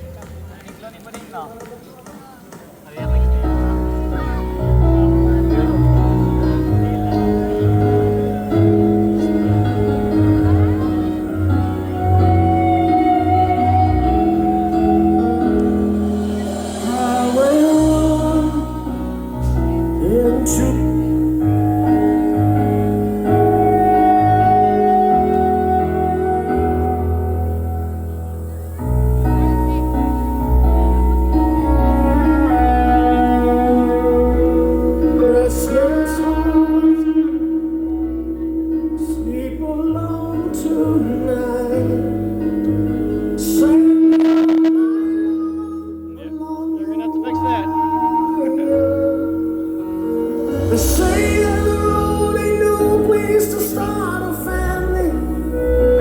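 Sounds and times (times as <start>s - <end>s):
bass line: 3.0s - 56.0s
keyboard chords: 3.0s - 56.0s
live band music: 3.0s - 56.0s
person singing: 5.4s - 27.3s, 30.9s - 42.8s, 43.4s - 56.0s.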